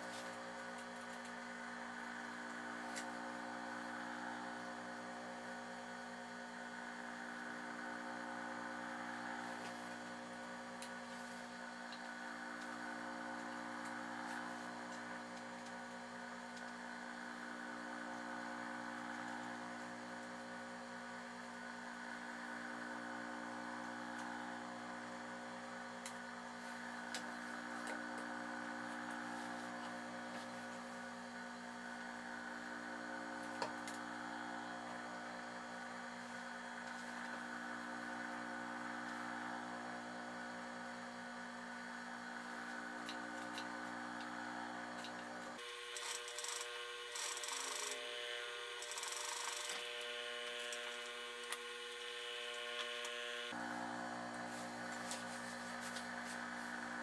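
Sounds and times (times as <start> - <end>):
hum of held tones: 0.0 - 57.0.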